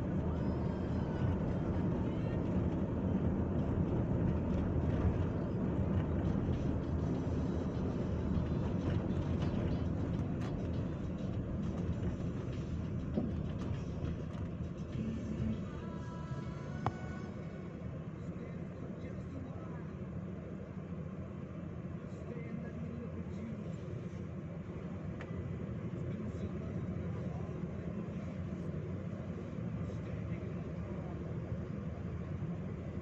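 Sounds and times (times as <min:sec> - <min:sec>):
vehicle road and engine rumble: 0:00.0 - 0:33.0.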